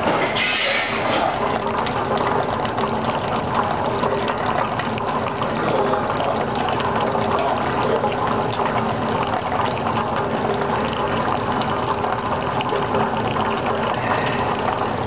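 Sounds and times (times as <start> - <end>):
hot water rushing and trickling: 0.0 - 15.0
faint steady hum: 1.4 - 15.0.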